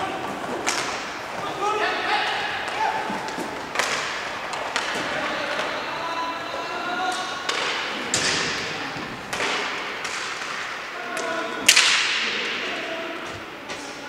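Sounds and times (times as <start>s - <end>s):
hockey sticks and puck clacking: 0.0s - 14.0s.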